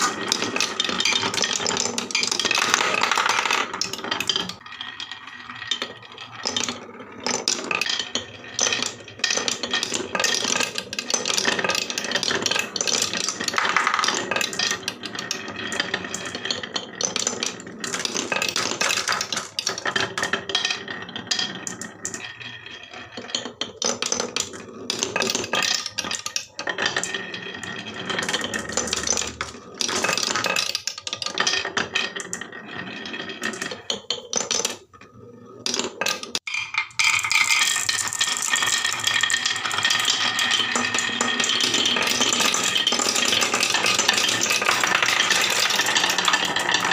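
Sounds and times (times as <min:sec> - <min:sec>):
marbles rattling down a marble run: 0:00.0 - 0:46.9.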